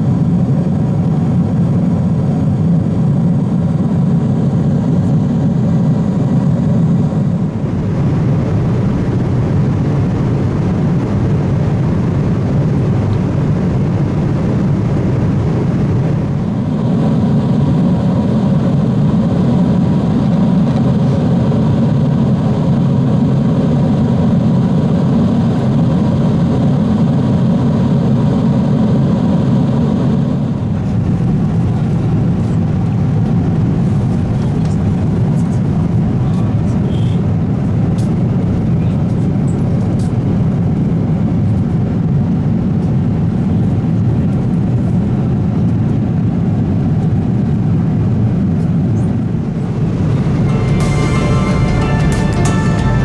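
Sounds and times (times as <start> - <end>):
airplane cabin engine rush: 0.0 - 53.0.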